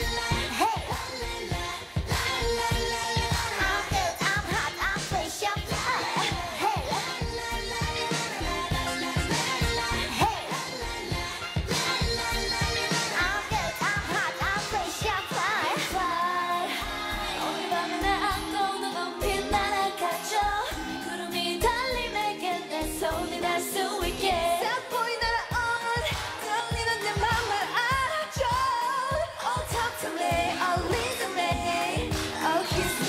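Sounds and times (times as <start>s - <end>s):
female voices singing: 0.0s - 33.0s
pop dance backing track: 0.0s - 33.0s.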